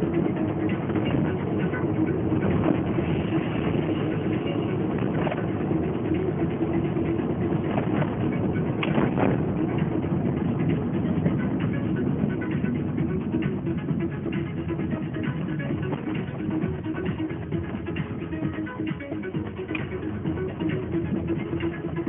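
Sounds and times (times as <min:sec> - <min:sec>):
car engine hum: 0:00.0 - 0:22.0
tyre and road noise: 0:00.0 - 0:22.0.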